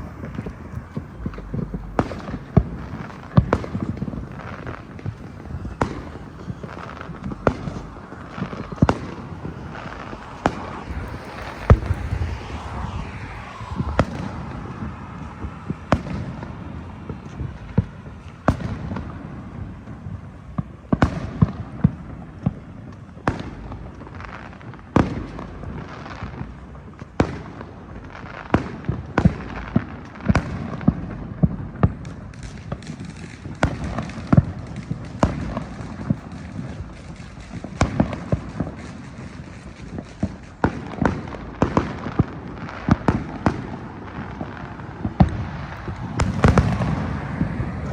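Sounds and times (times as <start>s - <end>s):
firecrackers banging: 0.0s - 47.9s.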